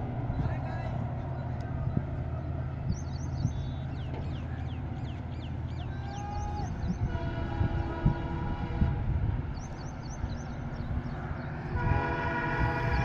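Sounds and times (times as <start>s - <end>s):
diesel locomotive engine humming: 0.0s - 13.0s.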